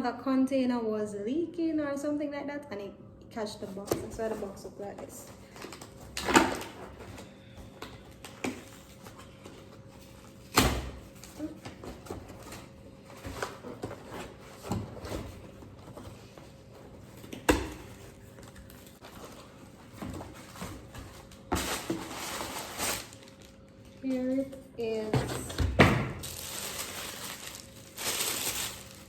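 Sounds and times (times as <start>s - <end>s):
cardboard rustling: 3.6s - 23.5s, 24.8s - 29.0s.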